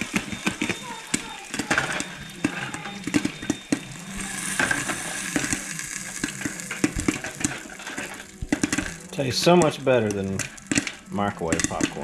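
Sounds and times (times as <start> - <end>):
popcorn popping in oil: 0.0 - 12.0.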